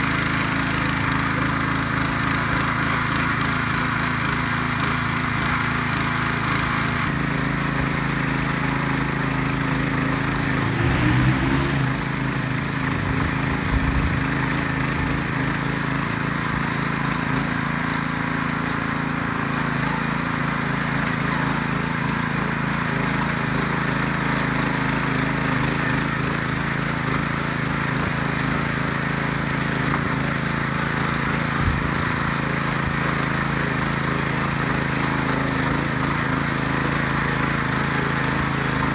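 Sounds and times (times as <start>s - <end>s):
motor hoe engine running: 0.0s - 38.9s
tines churning dry soil: 0.0s - 38.9s.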